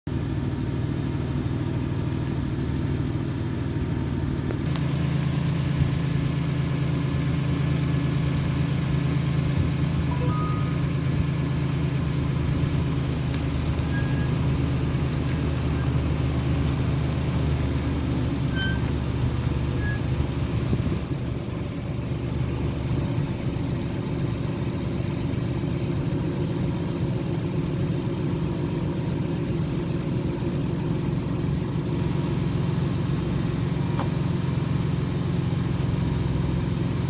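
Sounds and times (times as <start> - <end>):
car engine idling: 0.1 - 37.0.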